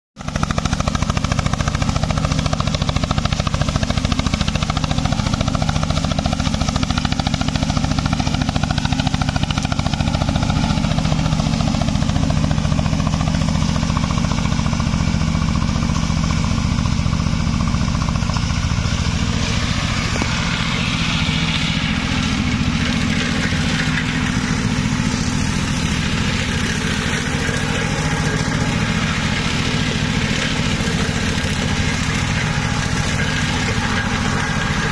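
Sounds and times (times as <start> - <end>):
mower engine running: 0.2 - 34.9.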